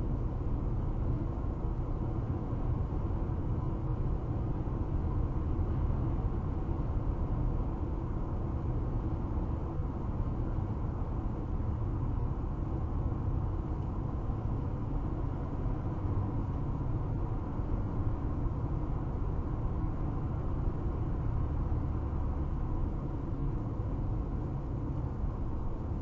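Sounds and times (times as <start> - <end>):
road and tyre rumble in car: 0.0 - 26.0.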